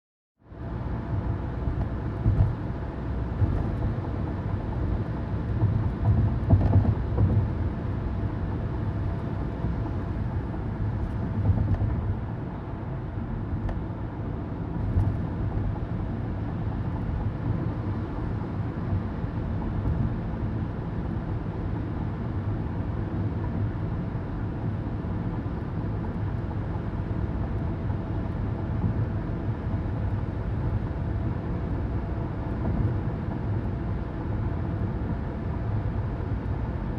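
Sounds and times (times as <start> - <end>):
road and tyre rumble: 0.4 - 36.9.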